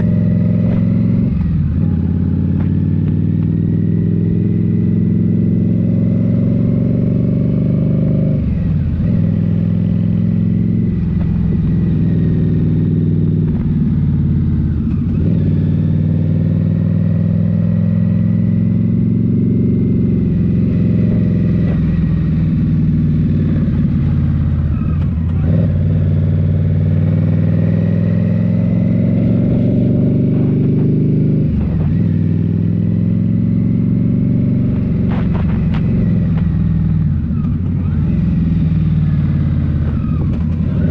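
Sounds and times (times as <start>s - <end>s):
motorcycle engine running at speed: 0.0s - 40.9s.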